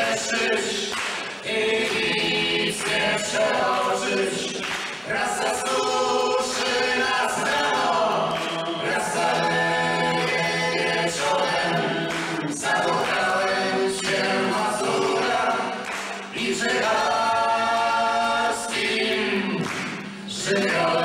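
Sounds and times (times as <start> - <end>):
group of voices singing: 0.0 - 21.0.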